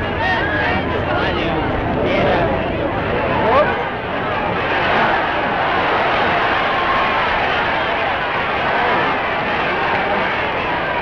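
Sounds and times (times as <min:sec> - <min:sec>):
crowd shouting: 0:00.0 - 0:11.0.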